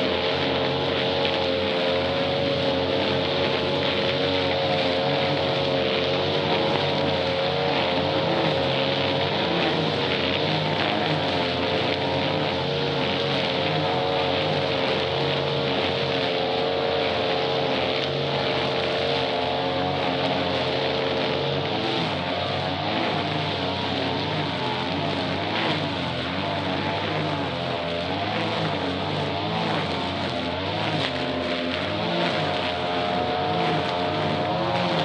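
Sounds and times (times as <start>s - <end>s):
grass cutter engine buzzing: 0.0s - 35.0s.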